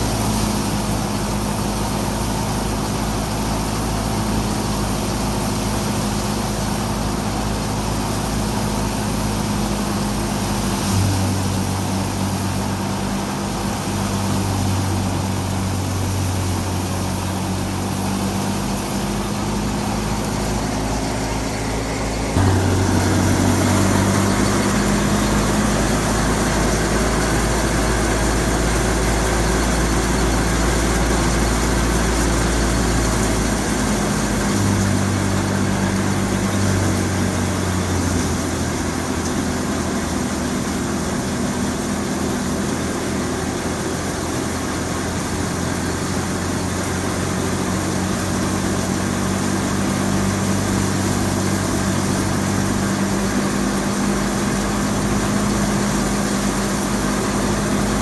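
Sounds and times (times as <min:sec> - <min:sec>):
thresher machine noise: 0:00.0 - 0:58.0
tractor engine running: 0:00.0 - 0:58.0.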